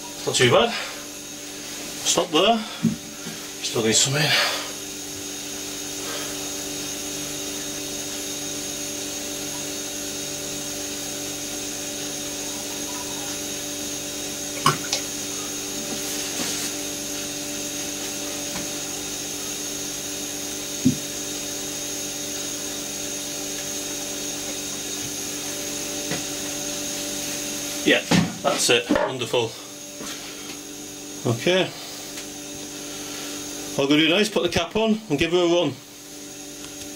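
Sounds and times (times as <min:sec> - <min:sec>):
faint high whine: 0:00.0 - 0:36.9
steady machine hum: 0:00.0 - 0:36.9.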